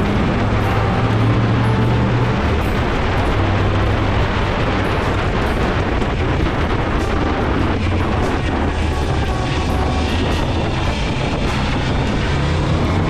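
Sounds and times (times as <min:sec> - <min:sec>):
motorcycle engine running: 0:00.0 - 0:13.0
wind rush: 0:00.0 - 0:13.0.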